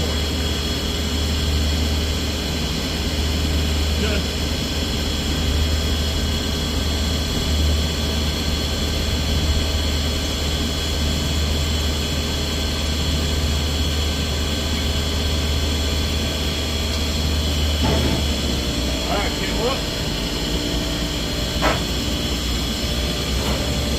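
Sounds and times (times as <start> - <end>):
heavy machinery low hum: 0.0 - 23.9.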